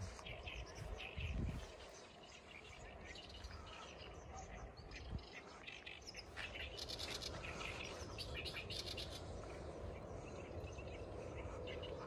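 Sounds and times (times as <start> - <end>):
small birds chirping: 0.0 - 12.0
wind rumble on microphone: 0.0 - 12.0.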